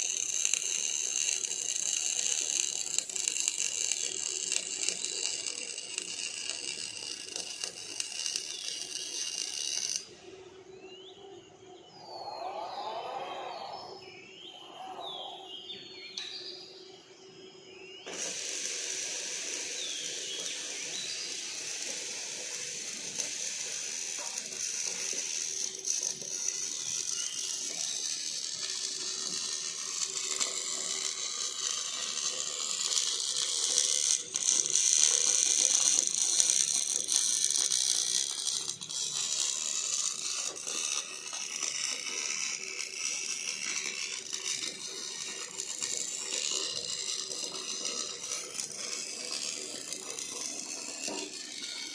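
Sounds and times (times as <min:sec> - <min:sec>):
welding arc crackling: 0:00.0 - 0:10.4, 0:18.0 - 0:51.9.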